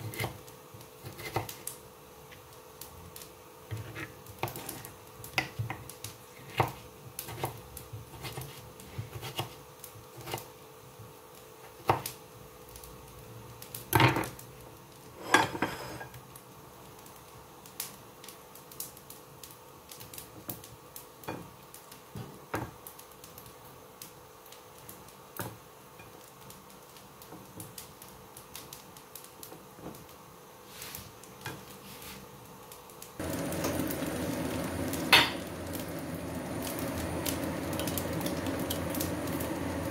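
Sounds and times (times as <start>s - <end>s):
pot boiling on stove: 0.0s - 39.9s.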